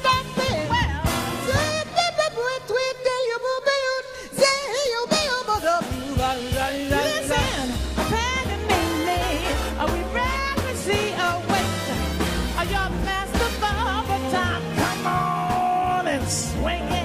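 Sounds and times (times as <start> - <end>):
jazz band playing: 0.0 - 3.8, 4.4 - 17.0
bass: 0.0 - 17.0.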